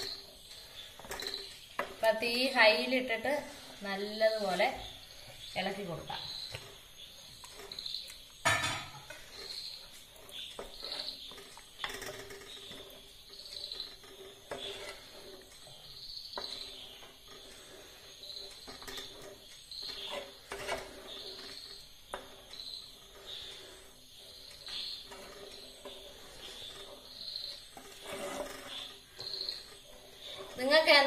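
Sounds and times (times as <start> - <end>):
spatula scraping metal pot: 0.0 - 31.0.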